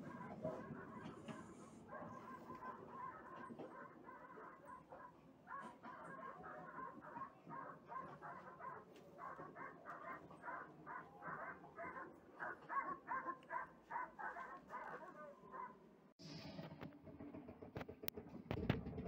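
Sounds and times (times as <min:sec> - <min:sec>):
dogs barking rapidly: 0:00.0 - 0:15.8.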